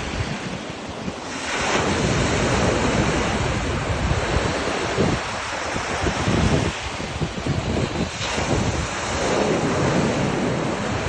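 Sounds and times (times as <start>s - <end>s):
ocean waves breaking: 0.0s - 11.0s
wind buffeting microphone: 0.0s - 11.0s.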